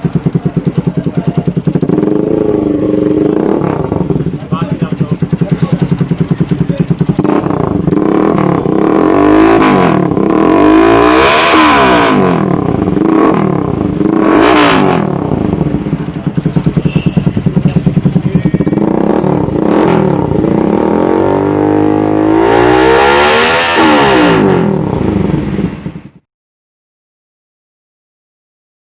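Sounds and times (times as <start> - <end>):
motorcycle engine idling and revving: 0.0 - 26.3.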